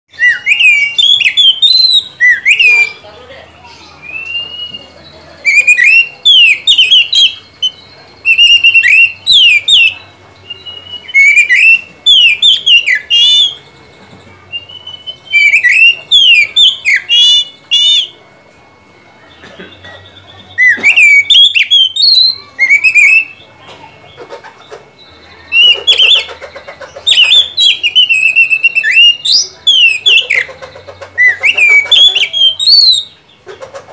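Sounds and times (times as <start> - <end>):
bird singing whistled phrases: 0.1 - 13.8, 14.4 - 18.3, 19.8 - 23.5, 25.0 - 26.3, 27.0 - 33.4.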